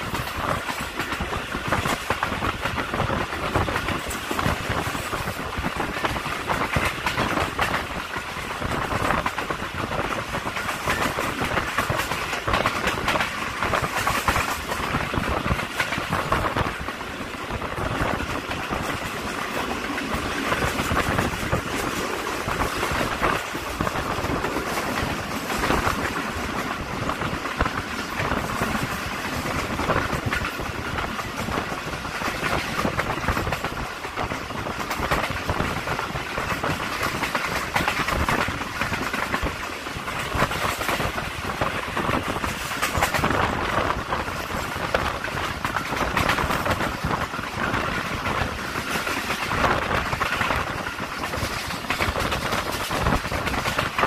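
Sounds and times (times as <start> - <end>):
train rattling: 0.0 - 54.0
train wheels rushing on rails: 0.0 - 54.0
wind rushing: 0.0 - 54.0.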